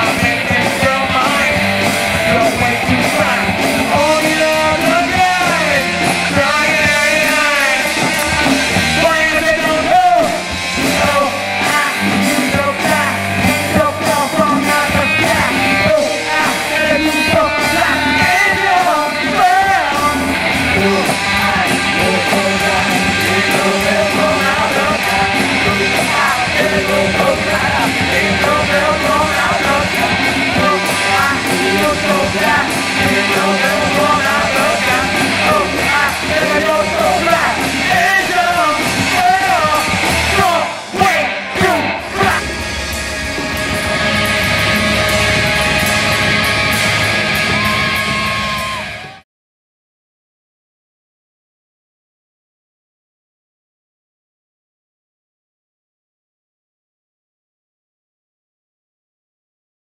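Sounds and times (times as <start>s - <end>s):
loud live rock band: 0.0s - 49.2s.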